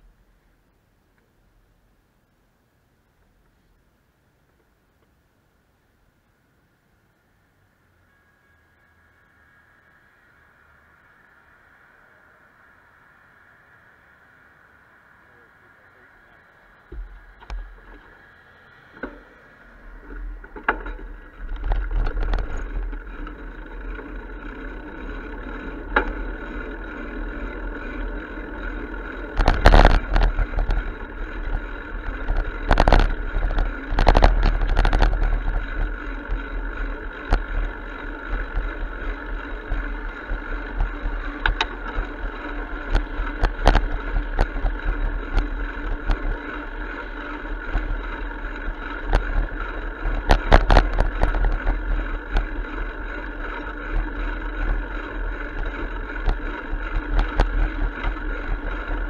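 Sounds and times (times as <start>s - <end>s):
bicycle riding noise: 3.1s - 59.0s
wind rumble: 7.2s - 59.0s.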